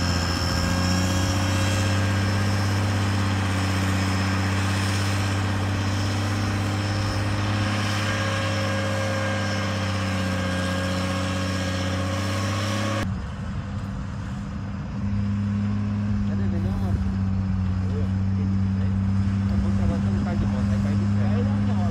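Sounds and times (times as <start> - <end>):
diesel engine running under load: 0.0 - 21.9.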